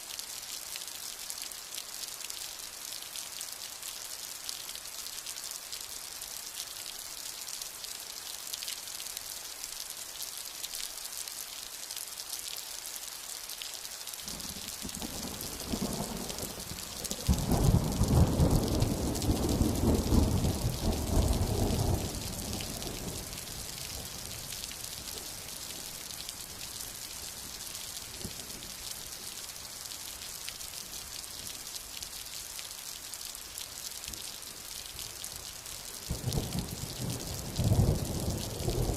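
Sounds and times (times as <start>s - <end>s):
rain hissing: 0.0s - 38.9s.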